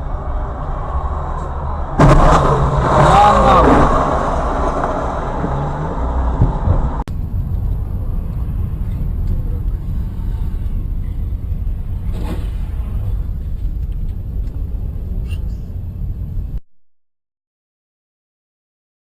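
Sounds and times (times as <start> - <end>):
vehicle engine and road noise: 0.0 - 16.6.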